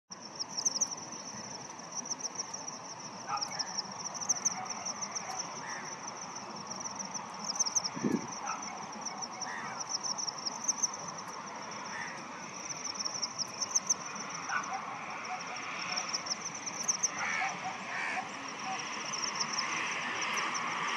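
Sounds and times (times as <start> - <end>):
insects trilling: 0.1 - 20.9
faint bird calls: 3.2 - 6.7, 7.3 - 20.7.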